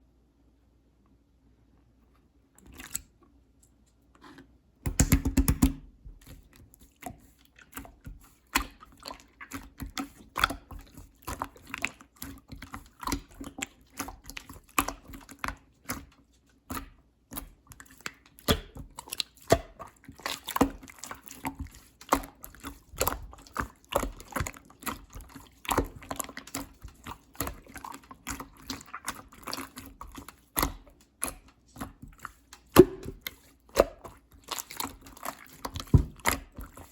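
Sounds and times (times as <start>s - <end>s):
slime squishing: 2.6s - 3.2s, 4.2s - 36.9s.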